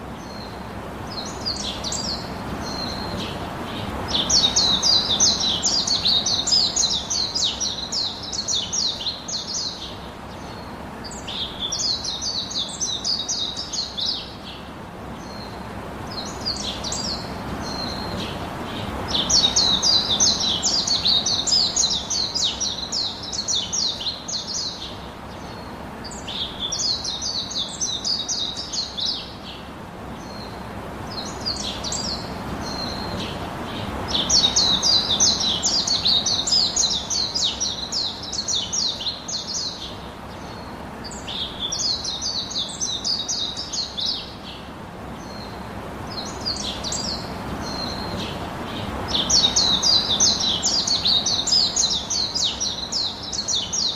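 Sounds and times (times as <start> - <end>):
birds twittering: 0.0 - 53.9.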